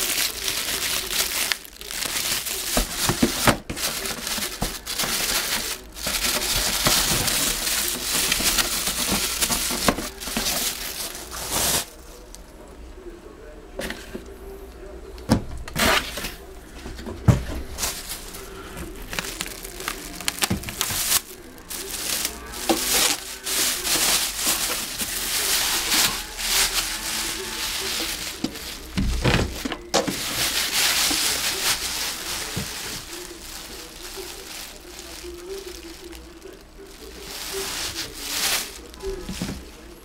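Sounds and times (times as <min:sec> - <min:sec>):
plastic wrap crinkling: 0:00.0 - 0:12.4, 0:15.7 - 0:40.0.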